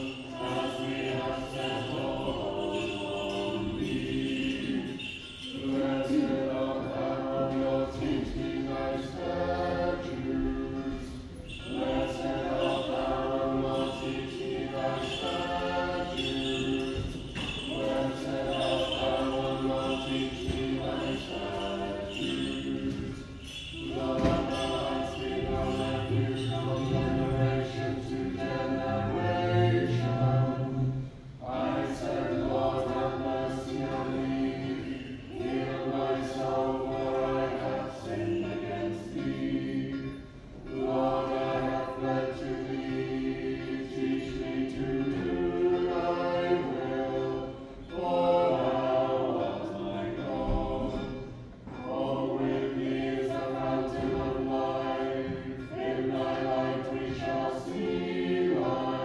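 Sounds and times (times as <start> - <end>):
choir chanting a cappella: 0.0 - 59.0.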